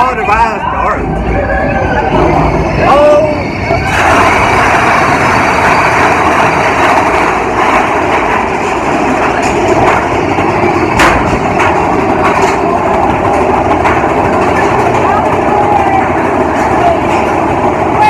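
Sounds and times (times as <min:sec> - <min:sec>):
roller coaster rattling on track: 0:00.0 - 0:18.0
sharp track clacks: 0:02.8 - 0:18.0.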